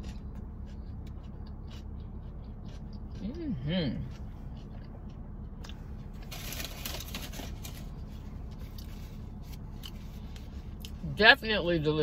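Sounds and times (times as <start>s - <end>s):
food being chewed: 0.0s - 11.0s
steady low hum: 0.0s - 12.0s.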